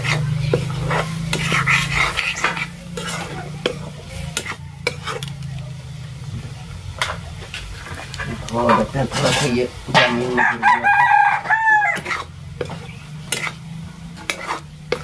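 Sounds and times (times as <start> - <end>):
ladle scraping and clinking pan: 0.0 - 5.4, 7.0 - 10.8, 11.9 - 15.0
potatoes sizzling in pan: 0.0 - 15.0.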